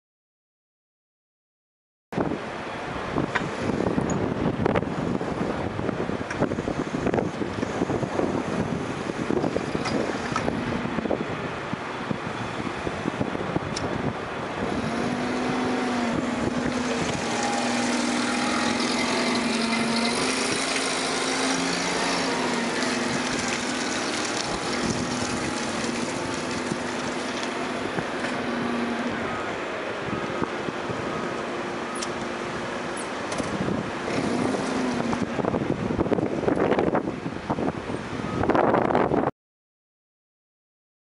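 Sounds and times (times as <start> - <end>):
forklift engine hum: 2.4 - 38.4.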